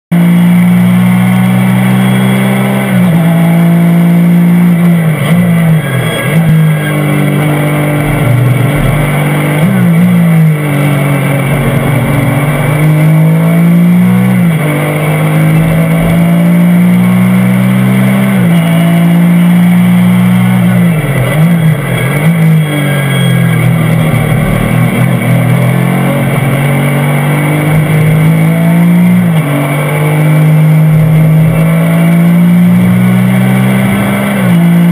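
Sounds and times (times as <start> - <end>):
racing car engine revving: 0.1 - 34.9.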